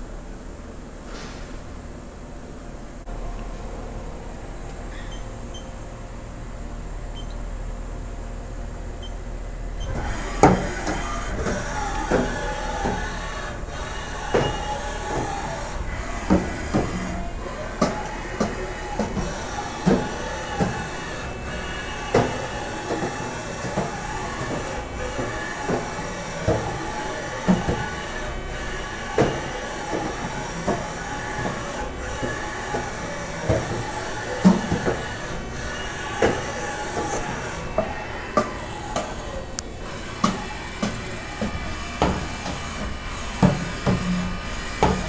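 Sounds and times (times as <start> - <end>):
machine running steady tone: 0.0 - 45.0.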